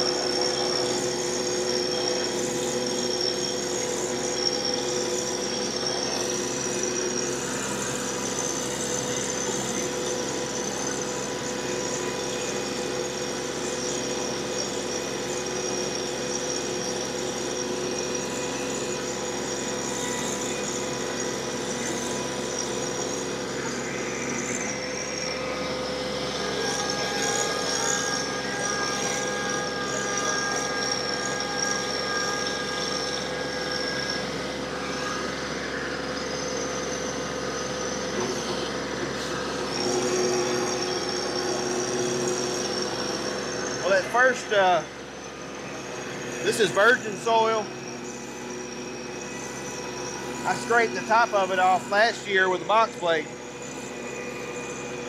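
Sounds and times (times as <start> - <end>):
high whine from drive: 0.0 - 55.0
rotary tiller churning soil: 0.0 - 55.0.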